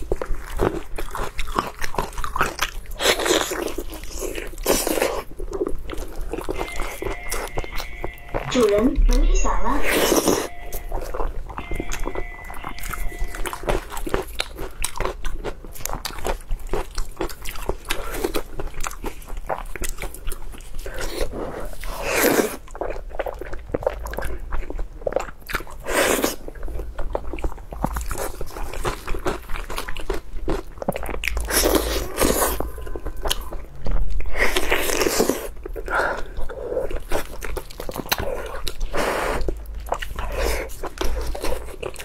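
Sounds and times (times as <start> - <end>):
person chewing meat: 0.0 - 9.2, 9.8 - 42.0.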